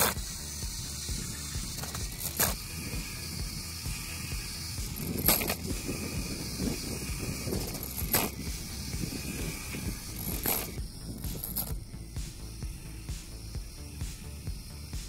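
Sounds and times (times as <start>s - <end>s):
small motor whirring with ticking: 0.0s - 15.0s.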